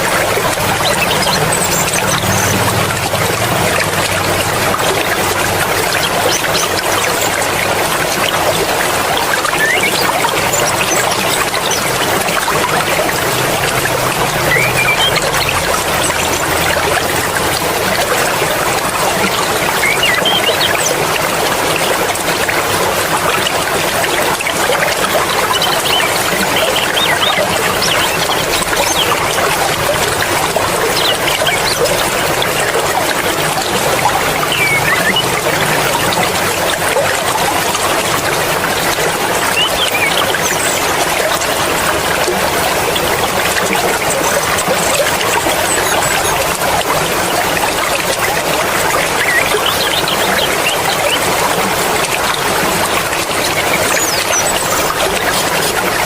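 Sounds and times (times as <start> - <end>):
stream water flowing and splashing: 0.0 - 56.0.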